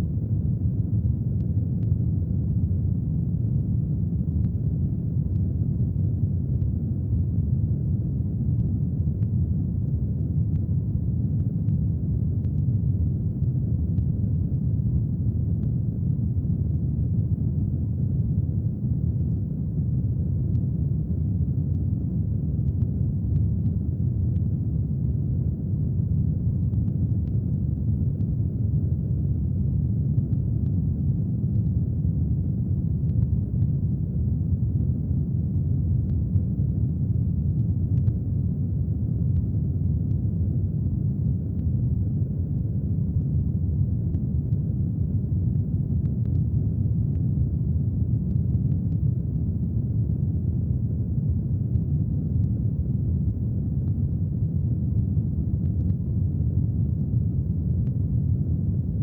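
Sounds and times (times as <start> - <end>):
low brown noise hiss: 0.0 - 59.0.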